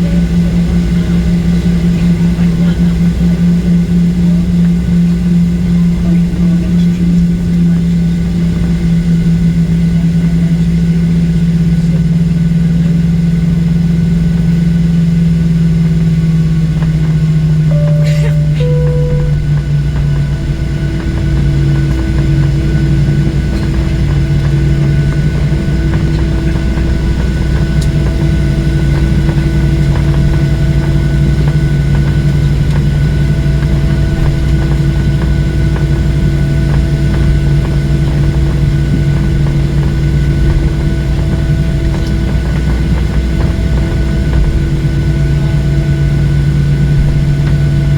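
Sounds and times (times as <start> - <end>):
jet engines idling in cabin: 0.0 - 47.9.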